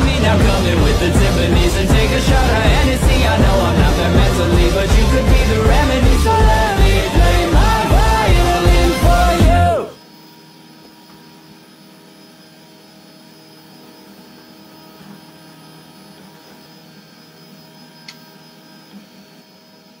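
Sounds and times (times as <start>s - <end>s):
electrical hum with constant tones: 0.0s - 20.0s.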